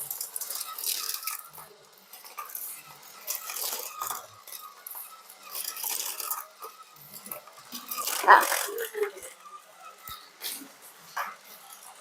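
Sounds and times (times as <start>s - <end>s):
metal toy cars clinking: 0.0s - 12.0s.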